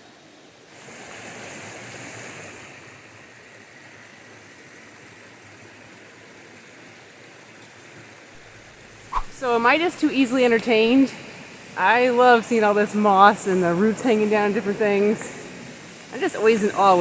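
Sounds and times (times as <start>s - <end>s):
stream rushing: 0.1s - 17.0s.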